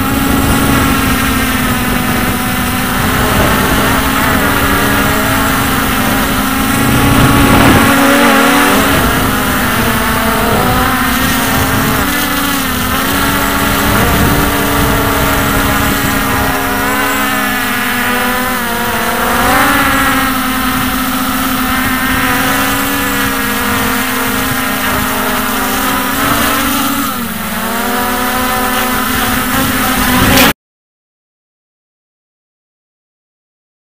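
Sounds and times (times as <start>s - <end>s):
drone propellers buzzing: 0.0s - 30.6s.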